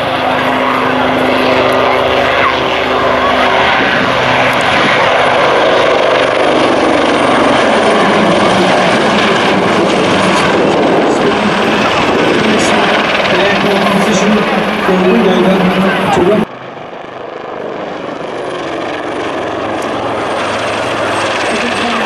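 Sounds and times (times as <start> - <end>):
helicopter rotor and engine noise: 0.0 - 22.0.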